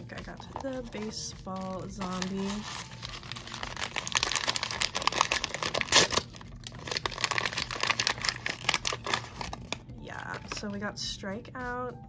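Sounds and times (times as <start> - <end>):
packaging crinkling: 0.1 - 10.6
packaging ripping: 0.5 - 10.6.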